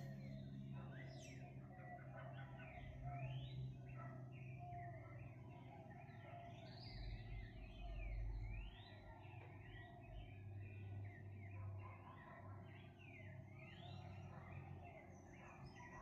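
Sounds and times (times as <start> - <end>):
birds singing and chirping: 0.0 - 16.0.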